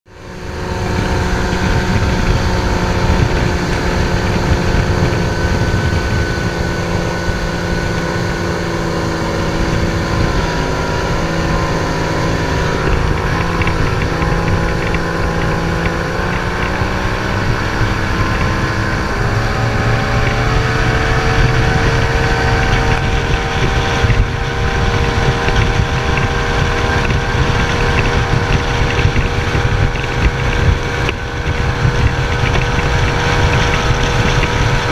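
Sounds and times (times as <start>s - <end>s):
outboard motors running flat out: 0.1s - 34.9s
wind buffeting microphone: 0.1s - 34.9s.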